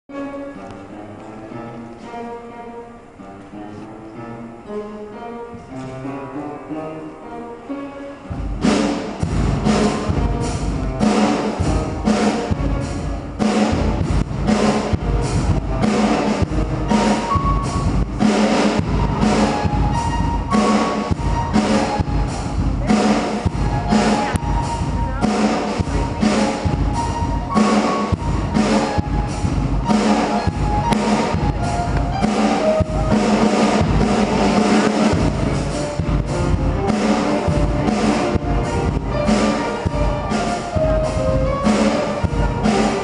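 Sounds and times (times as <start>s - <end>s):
upright piano playing: 0.1s - 43.0s
drum kit with cymbals: 8.3s - 43.0s.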